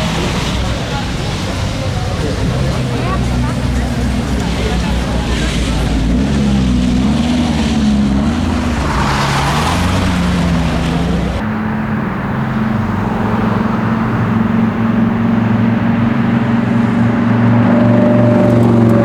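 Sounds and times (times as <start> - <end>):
supercar engine revving: 0.0 - 19.0.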